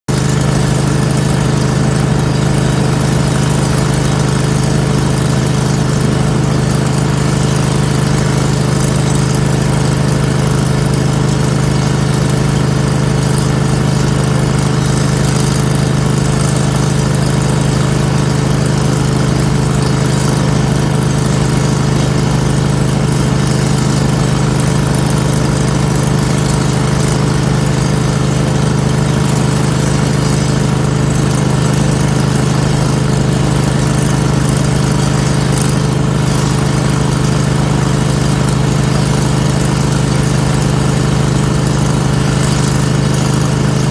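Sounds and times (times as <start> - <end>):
engine running steadily: 0.1 - 43.9.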